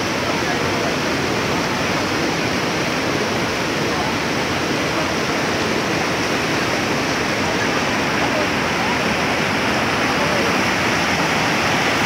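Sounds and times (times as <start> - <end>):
river floodwater rushing: 0.0 - 12.0.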